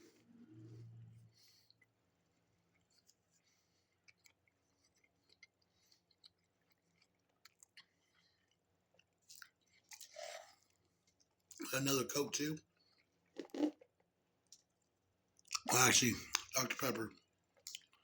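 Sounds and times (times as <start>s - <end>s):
soft chewing: 0.0s - 11.8s, 12.6s - 18.0s.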